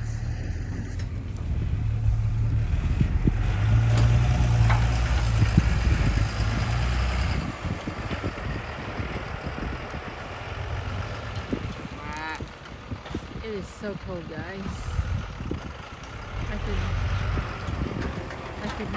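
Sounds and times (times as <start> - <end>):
vehicle engine idling: 0.0 - 18.9.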